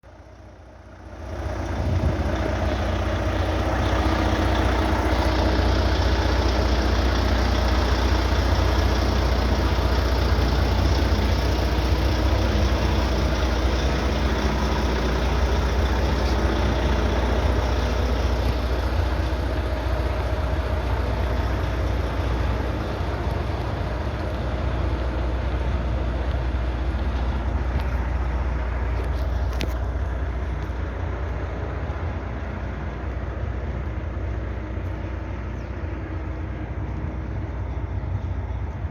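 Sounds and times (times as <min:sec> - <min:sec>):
road noise: 0:00.0 - 0:38.9
truck diesel engine droning: 0:00.0 - 0:38.9.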